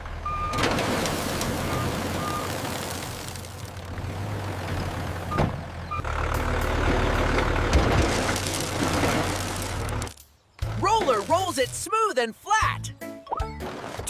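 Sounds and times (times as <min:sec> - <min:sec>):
heavy vehicle engine rumbling: 0:00.0 - 0:11.8.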